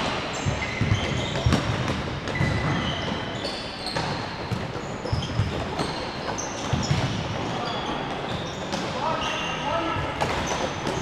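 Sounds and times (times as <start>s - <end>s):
trainers squeaking on floor: 0.3s - 11.0s.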